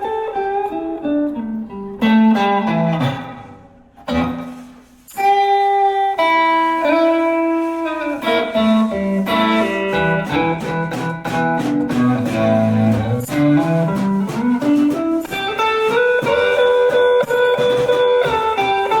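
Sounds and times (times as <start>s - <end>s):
instrumental guitar music: 0.0s - 19.0s.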